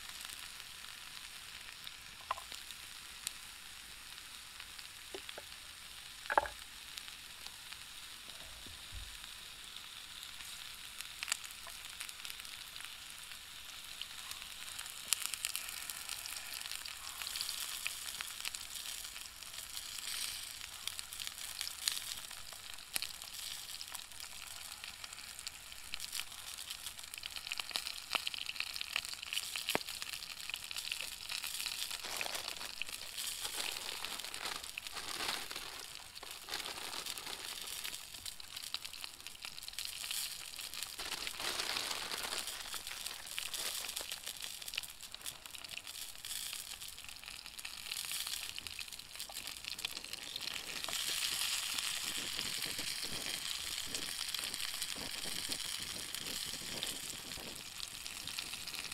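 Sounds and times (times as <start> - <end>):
food sizzling over campfire: 0.0 - 58.9.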